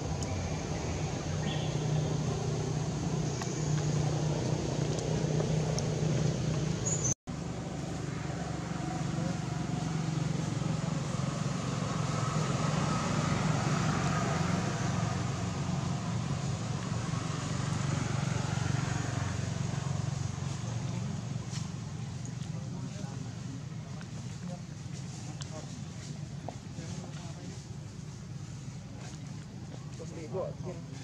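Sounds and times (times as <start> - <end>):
low hum of traffic: 0.0 - 31.0.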